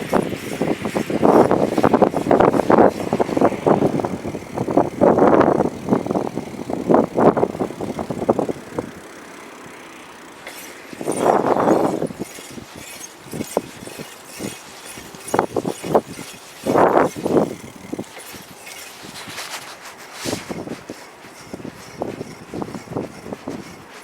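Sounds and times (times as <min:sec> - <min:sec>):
wind buffeting on a moving bicycle: 0:00.0 - 0:24.0.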